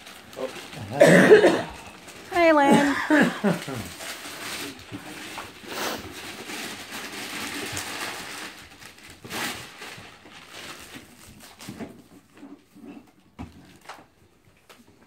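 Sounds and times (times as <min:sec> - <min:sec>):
wrapping paper tearing and crumpling: 0:00.0 - 0:13.0.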